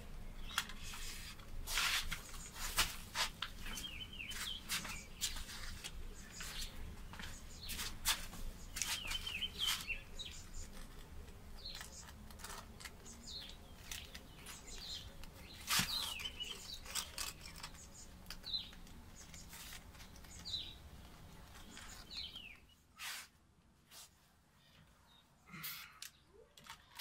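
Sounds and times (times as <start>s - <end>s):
bird chirping: 0.0s - 22.8s.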